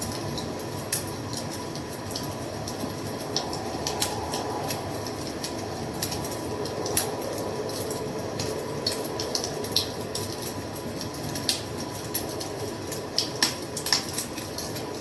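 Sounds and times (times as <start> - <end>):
wood fire crackling: 0.2 - 15.0.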